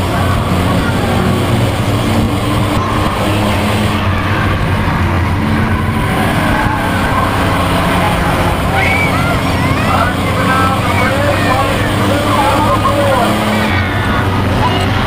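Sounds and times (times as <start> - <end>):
race car engine running: 0.0 - 15.0
road and tyre noise: 0.0 - 15.0.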